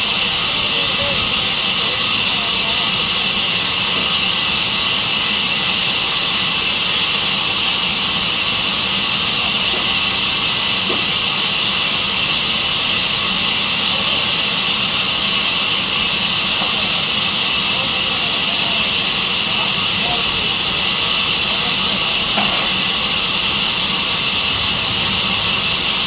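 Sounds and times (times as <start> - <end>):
sawmill saw running: 0.0 - 26.0.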